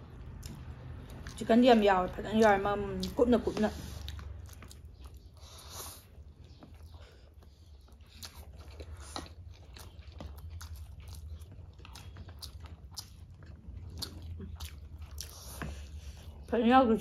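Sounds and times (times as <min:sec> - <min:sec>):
people chewing noodles: 0:00.0 - 0:17.0.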